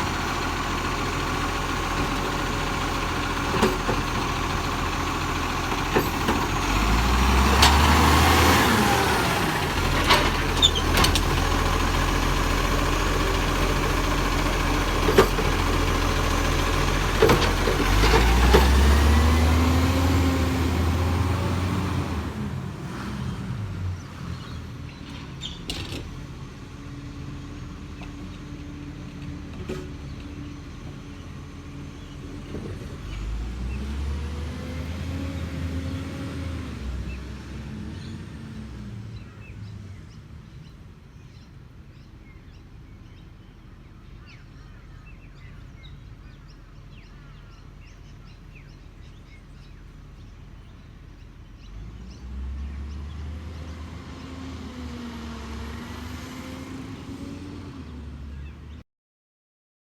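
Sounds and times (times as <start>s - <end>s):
diesel truck engine running: 0.0s - 40.4s, 42.5s - 58.8s.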